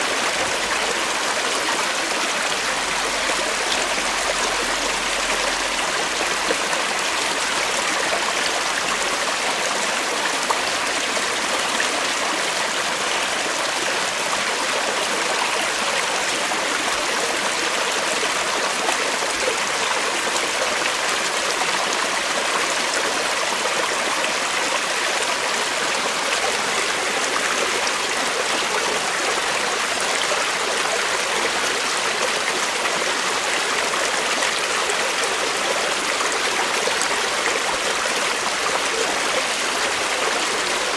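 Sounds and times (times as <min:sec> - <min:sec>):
creek water flowing over rocks: 0:00.0 - 0:40.9.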